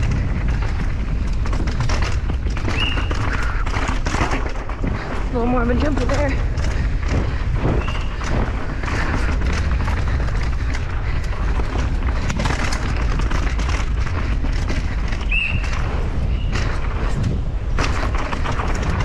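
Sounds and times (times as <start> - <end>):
bike rattling and knocking: 0.0 - 19.0
wind rumbling on microphone: 0.0 - 19.0.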